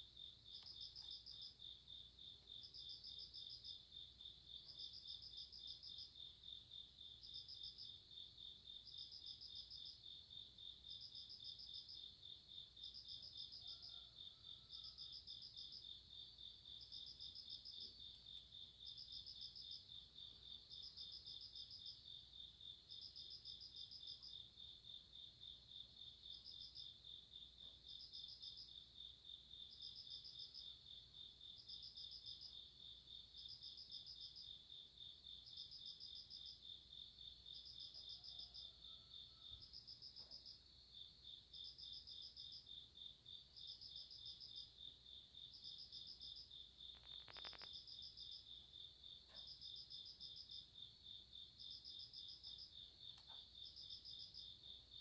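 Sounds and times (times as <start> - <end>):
insect steady pulsing trill: 0.0 - 55.0.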